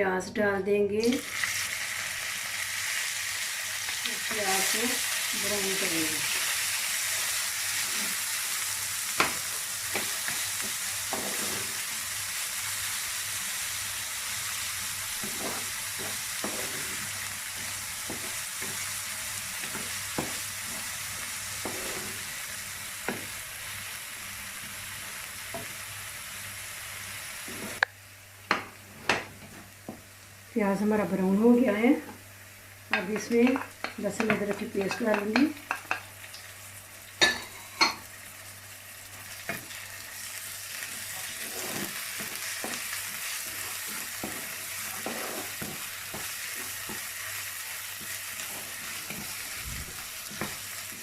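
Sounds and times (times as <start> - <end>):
onions sizzling in a pan: 1.0 - 51.0.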